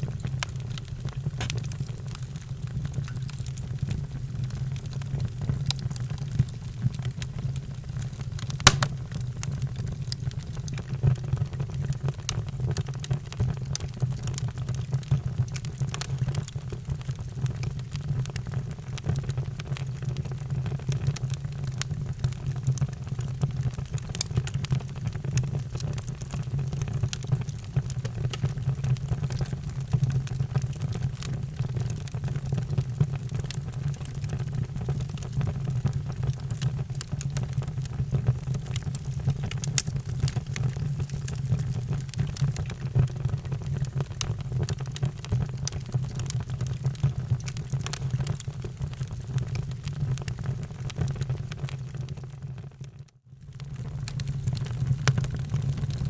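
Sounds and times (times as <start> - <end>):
wood fire crackling: 0.0 - 52.4, 53.5 - 56.0.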